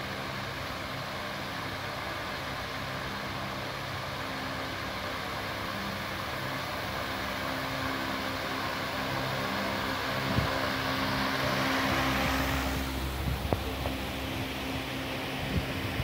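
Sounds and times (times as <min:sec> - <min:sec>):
faint motor hum: 0:00.0 - 0:16.0
misting fan air rushing: 0:00.0 - 0:16.0.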